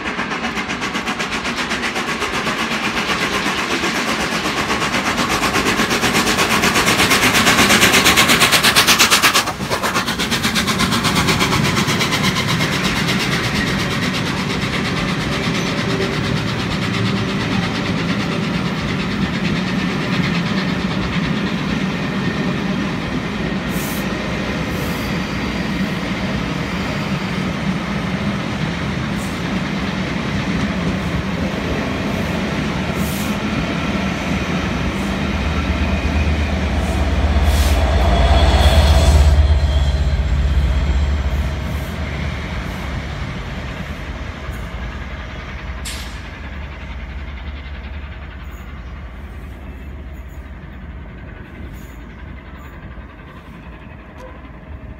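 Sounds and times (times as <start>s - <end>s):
deep rumble of another train: 0.0s - 54.9s
steam locomotive exhaust beats: 0.0s - 54.9s.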